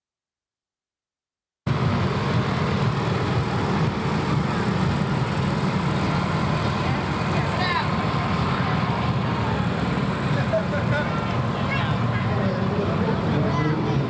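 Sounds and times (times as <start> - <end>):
low outdoor rumbling: 1.7 - 14.0.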